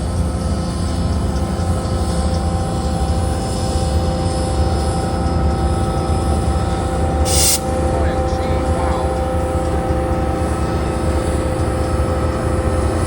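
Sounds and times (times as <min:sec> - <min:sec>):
train rumbling past: 0:00.0 - 0:13.0
train wheel squeal: 0:00.0 - 0:13.0.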